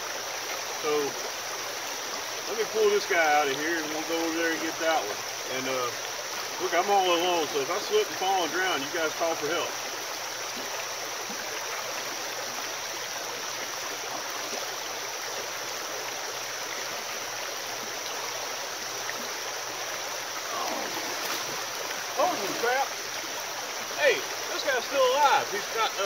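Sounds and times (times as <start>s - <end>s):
creek water flowing over rocks: 0.0s - 26.0s.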